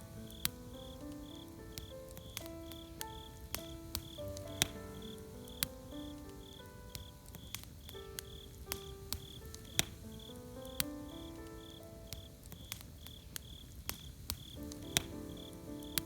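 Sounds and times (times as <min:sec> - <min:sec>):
campfire crackling: 0:00.0 - 0:16.0
crickets chirping: 0:00.0 - 0:16.0
soft music of held notes: 0:00.0 - 0:16.0.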